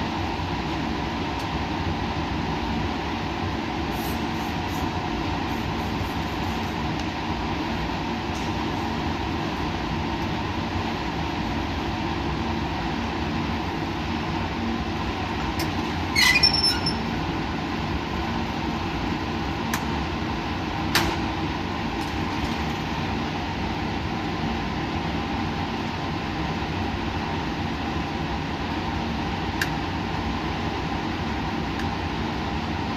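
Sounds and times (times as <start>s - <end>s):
steady hum: 0.0s - 32.9s.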